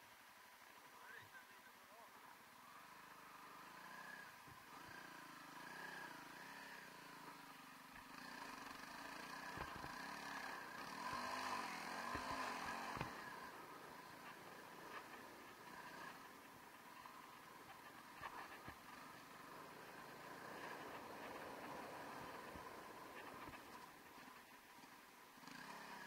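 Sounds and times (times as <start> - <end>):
motorcycle engine revving: 2.6 - 26.0.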